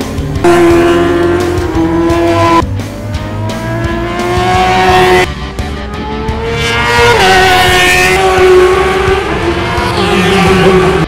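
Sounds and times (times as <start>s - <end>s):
motorcycle engine revving past: 0.4s - 11.0s.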